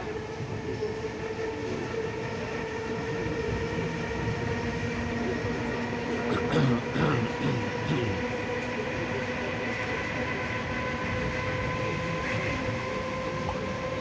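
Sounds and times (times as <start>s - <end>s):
electric train running on track: 0.0s - 14.0s.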